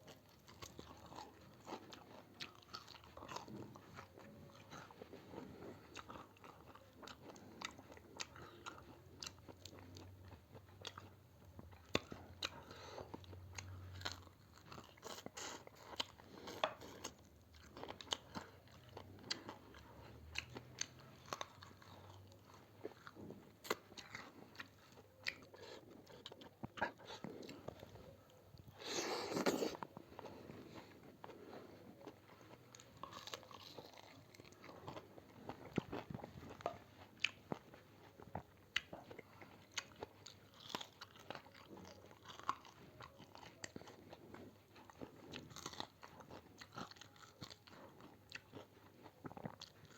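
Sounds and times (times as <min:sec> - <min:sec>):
person chewing noodle soup: 0:00.0 - 0:49.9.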